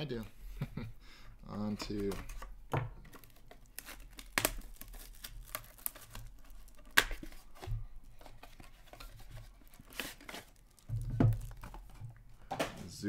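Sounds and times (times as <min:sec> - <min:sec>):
rustling of card packaging: 0:01.5 - 0:12.2.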